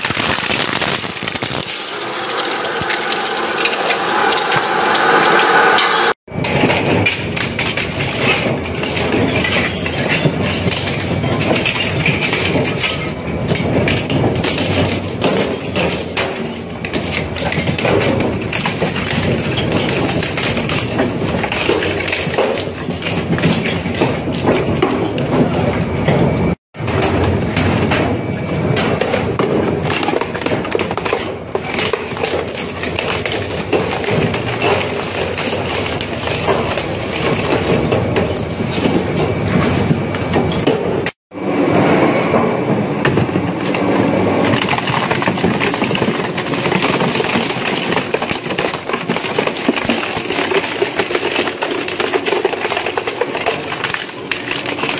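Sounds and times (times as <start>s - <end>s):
shredder grinding metal: 0.2s - 24.9s, 29.0s - 42.5s, 43.6s - 54.9s.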